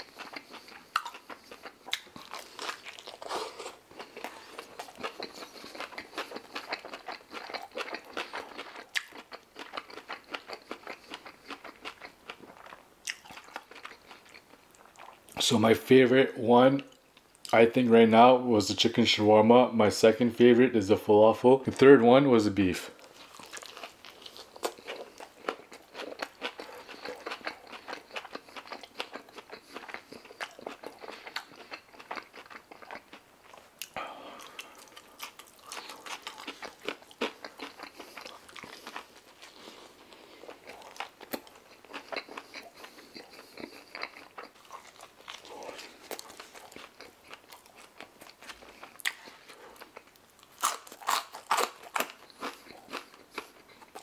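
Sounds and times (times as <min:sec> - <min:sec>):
person chewing food: 0:00.0 - 0:15.4, 0:23.0 - 0:54.0.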